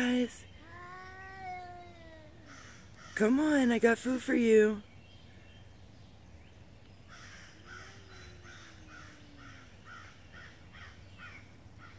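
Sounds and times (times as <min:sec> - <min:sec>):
harsh bird calls: 0:00.0 - 0:03.4, 0:04.8 - 0:11.9
low background hum: 0:00.0 - 0:11.9.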